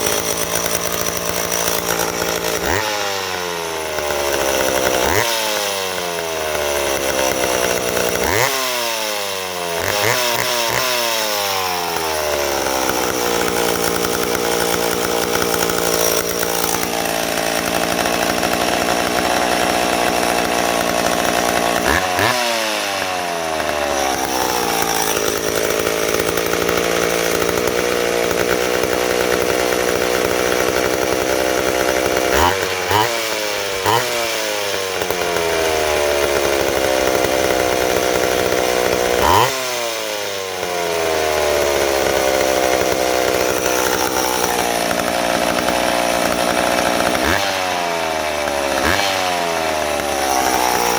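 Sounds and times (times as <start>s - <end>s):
chainsaw engine revving: 0.0s - 50.9s.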